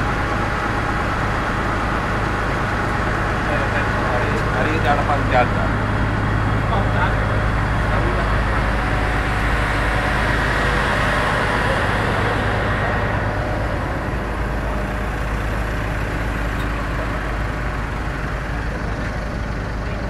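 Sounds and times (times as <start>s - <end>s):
ship engine humming: 0.0s - 20.0s.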